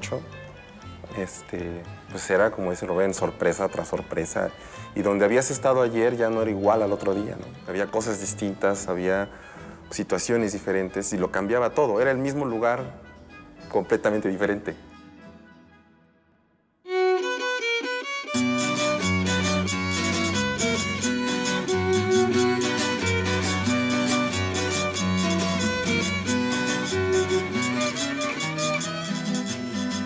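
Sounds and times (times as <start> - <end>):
violin: 0.0 - 14.6, 16.9 - 30.0
strummed accompaniment: 0.0 - 16.0, 16.9 - 30.0.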